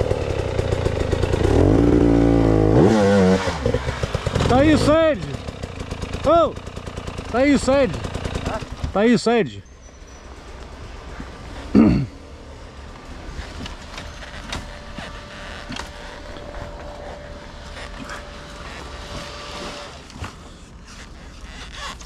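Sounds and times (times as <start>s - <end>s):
distant motorcycle engine running: 0.0s - 22.0s.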